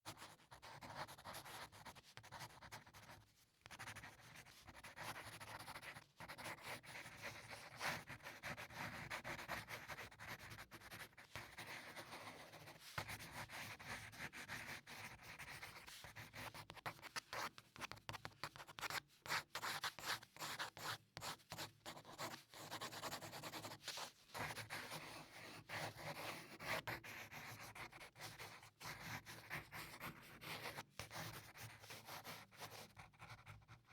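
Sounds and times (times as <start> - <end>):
pencil scratching on paper: 0.2 - 33.8.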